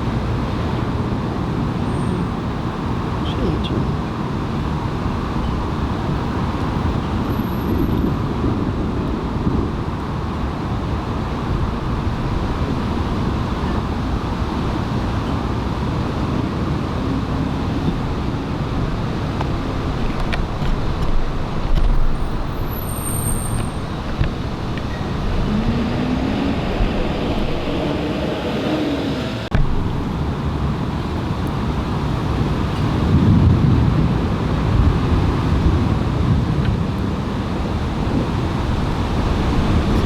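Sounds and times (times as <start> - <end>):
faint engine hums: 0.0 - 40.0
road traffic rumble: 0.0 - 40.0.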